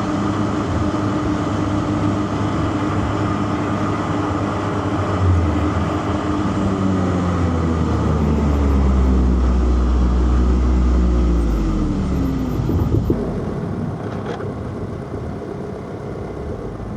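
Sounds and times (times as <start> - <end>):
car engine slowing to idle: 0.0 - 16.9.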